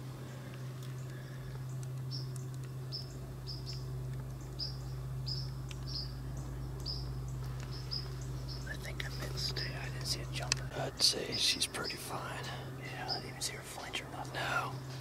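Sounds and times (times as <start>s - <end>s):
steady low hum: 0.0s - 15.0s
bird chip notes: 0.2s - 15.0s.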